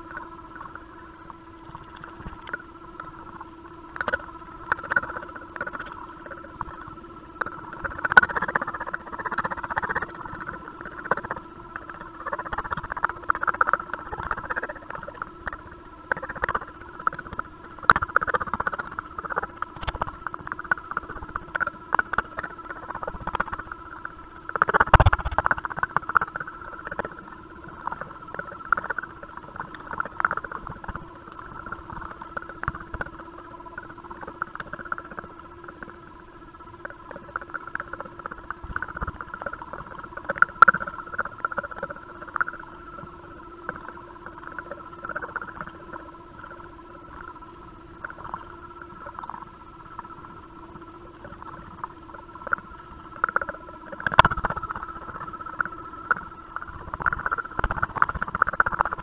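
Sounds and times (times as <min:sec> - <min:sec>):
electronic hum with held tones: 0:00.0 - 0:59.0.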